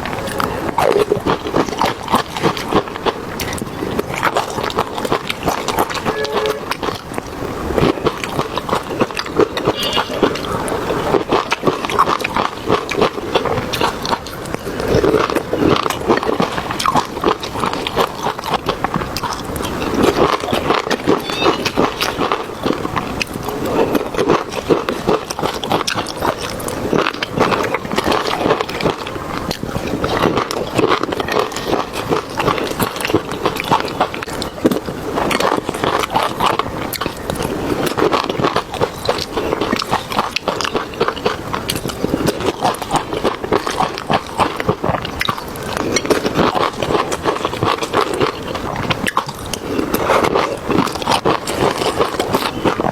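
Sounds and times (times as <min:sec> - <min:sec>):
chewing and biting: 0:00.0 - 0:52.9.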